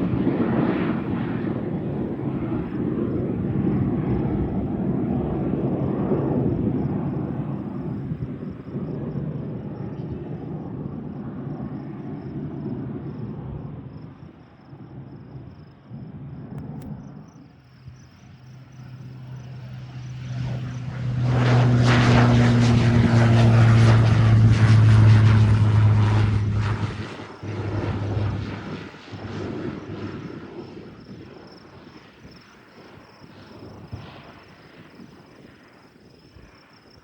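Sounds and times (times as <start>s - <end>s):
propeller airplane passing: 0.0s - 14.8s, 16.6s - 37.0s.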